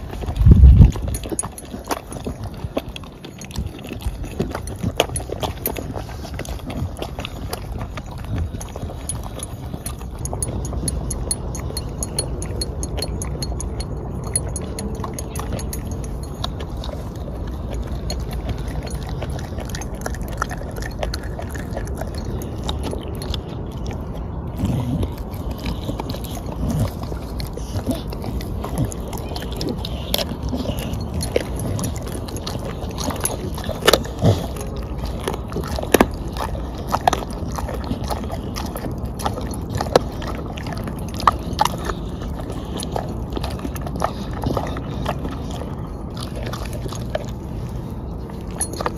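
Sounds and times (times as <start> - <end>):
dog chewing raw chicken: 0.0 - 48.9.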